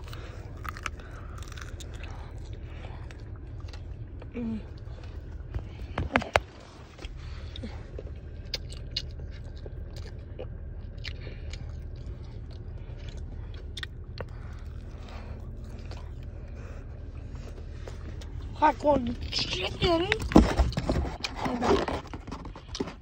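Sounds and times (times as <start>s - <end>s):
person chewing crunchy food: 0.0s - 19.3s
low car rumble: 0.0s - 23.0s.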